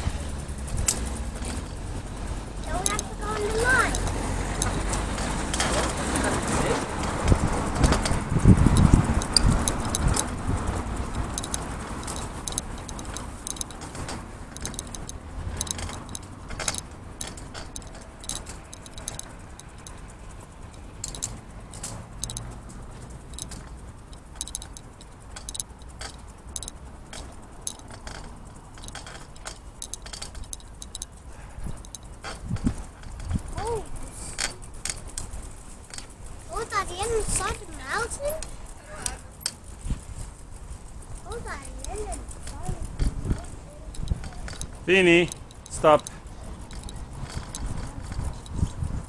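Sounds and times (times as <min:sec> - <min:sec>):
bicycle rattling: 0:00.0 - 0:49.0.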